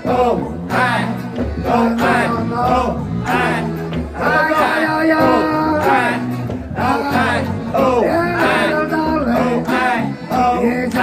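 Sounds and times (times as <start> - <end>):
person singing: 0.0 - 11.0
reggae band playing: 0.0 - 11.0.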